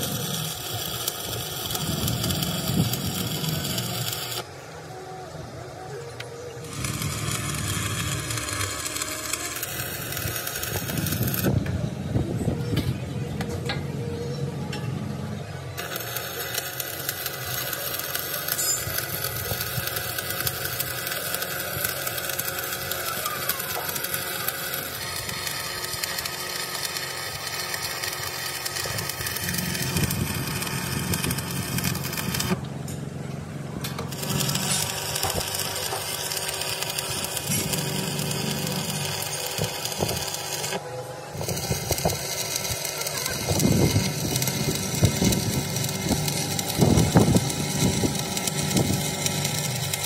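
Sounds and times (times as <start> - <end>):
machinery running: 0.0 - 50.0.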